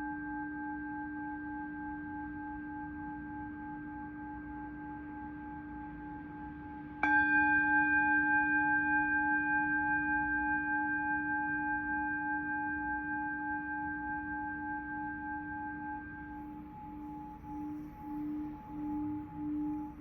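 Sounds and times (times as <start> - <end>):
singing bowl ringing: 0.0 - 20.0.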